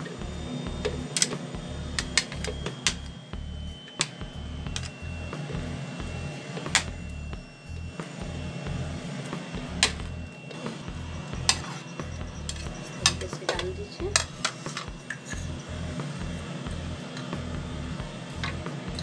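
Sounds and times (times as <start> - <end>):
background music with steady beat: 0.0 - 19.0.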